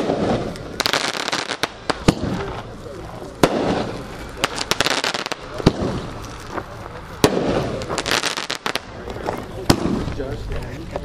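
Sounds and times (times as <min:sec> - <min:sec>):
fireworks bangs: 0:00.0 - 0:10.5
fireworks crackling: 0:00.0 - 0:11.0.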